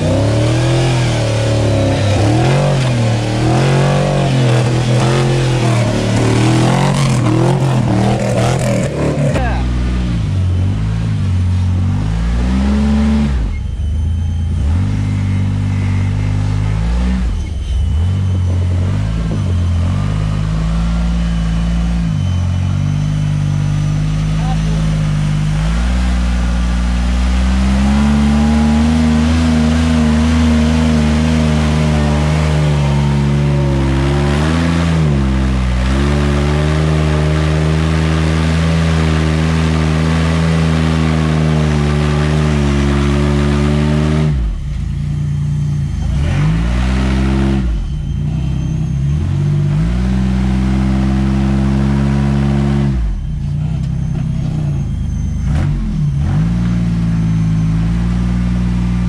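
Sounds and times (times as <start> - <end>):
off-road engine under throttle: 0.0 - 59.0.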